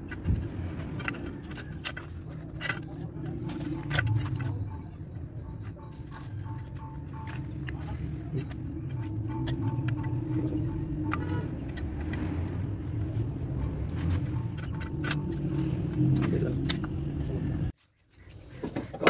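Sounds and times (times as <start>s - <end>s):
tractor engine running: 0.0s - 17.7s.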